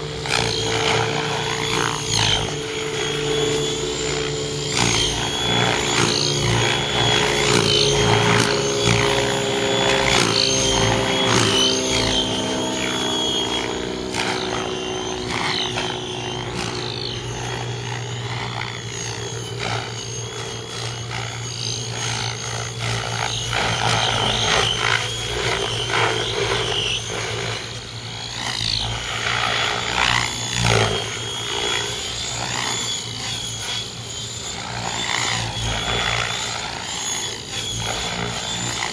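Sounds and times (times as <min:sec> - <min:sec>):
electric motor whine: 0:00.0 - 0:38.9
rotor blades whooshing: 0:00.0 - 0:38.9.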